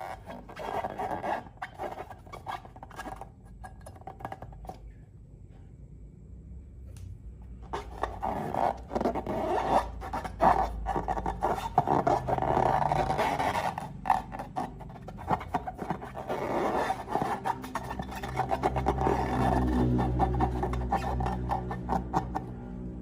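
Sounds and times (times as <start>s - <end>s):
slime stirred and scraped: 0.0s - 4.9s, 7.5s - 22.7s.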